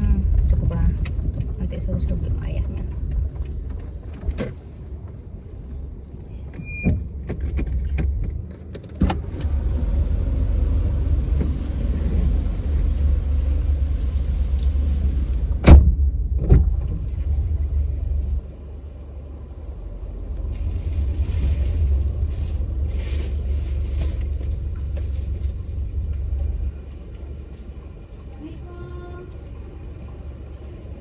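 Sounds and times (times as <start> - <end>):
car interior rumble: 0.0 - 31.0.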